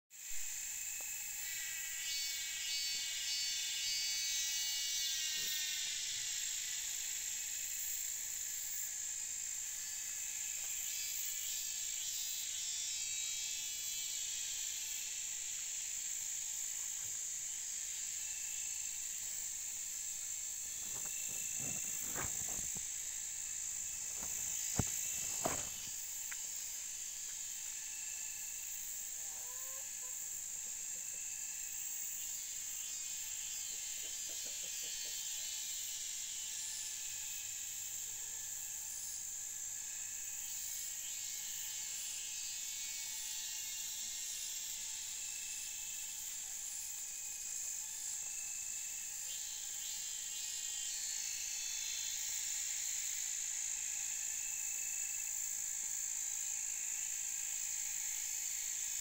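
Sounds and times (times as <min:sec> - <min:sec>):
insects droning: 0:00.1 - 0:59.0.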